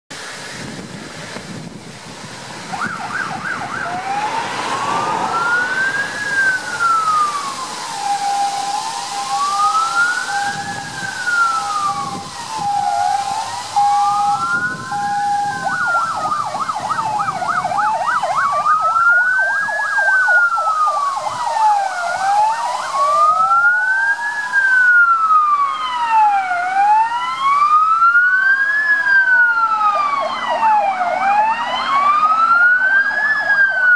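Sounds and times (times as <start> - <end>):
siren slow wail: 2.6 - 33.9
second siren wail: 2.7 - 33.9
siren fast warble: 2.7 - 33.9.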